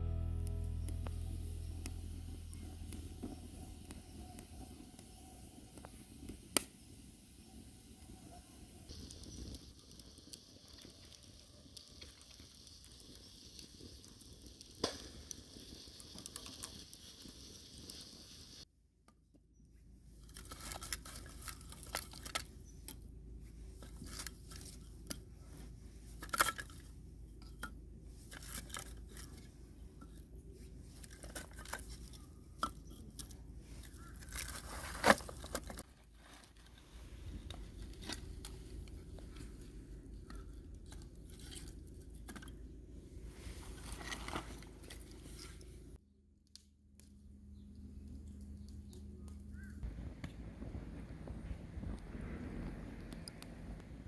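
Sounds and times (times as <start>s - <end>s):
firewood crackling and popping: 0.0s - 18.7s, 20.2s - 54.0s.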